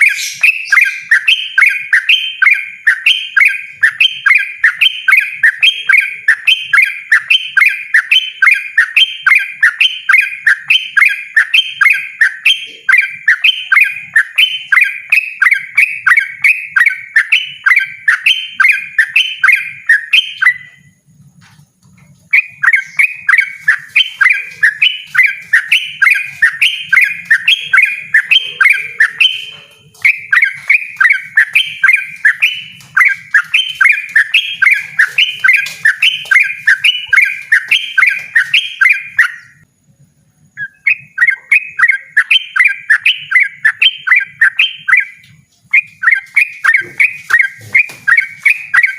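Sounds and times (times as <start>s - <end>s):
bulbul singing rapid repeated notes: 0.0s - 21.0s, 22.0s - 39.7s, 40.5s - 48.9s.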